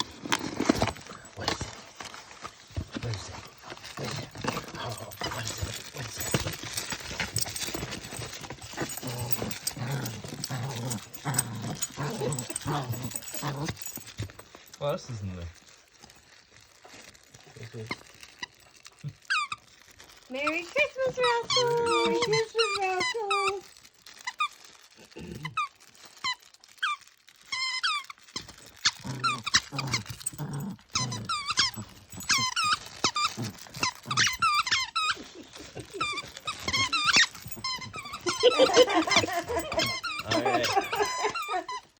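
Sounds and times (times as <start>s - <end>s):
dog claws clicking and scraping: 0.0s - 41.9s
wrapping paper crinkling: 0.0s - 41.9s.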